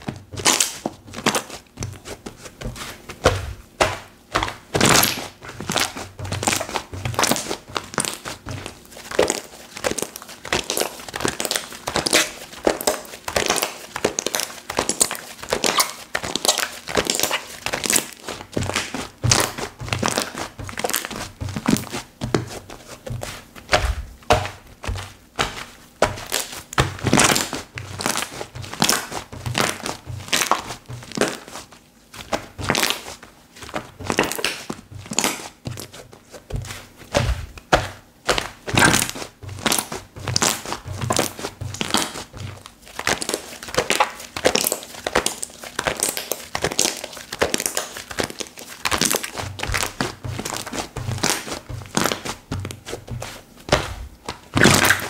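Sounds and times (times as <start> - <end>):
hands squishing slime: 0.0 - 55.0.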